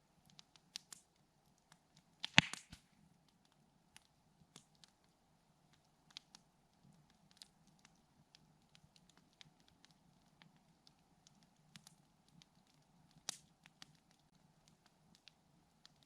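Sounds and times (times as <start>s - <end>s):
campfire crackling faintly: 0.0s - 16.0s.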